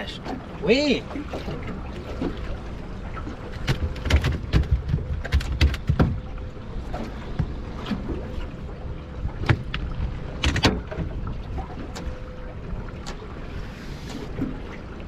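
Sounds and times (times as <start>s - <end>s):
low rumble of wind and water: 0.0s - 15.0s.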